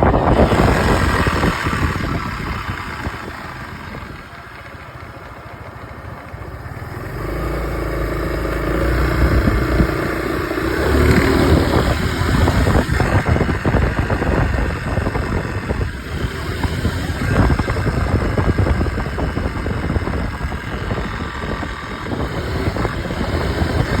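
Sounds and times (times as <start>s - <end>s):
choppy irregular noise: 0.0s - 24.0s
scooter engine: 0.0s - 24.0s.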